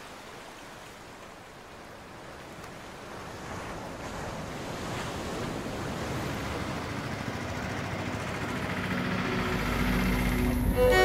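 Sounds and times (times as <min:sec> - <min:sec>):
sea surf washing: 0:00.0 - 0:11.0.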